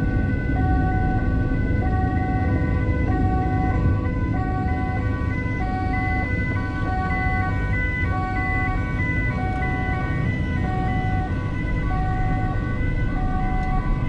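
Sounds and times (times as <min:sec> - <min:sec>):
engine and road noise: 0:00.0 - 0:14.0
two-tone siren: 0:00.0 - 0:14.0.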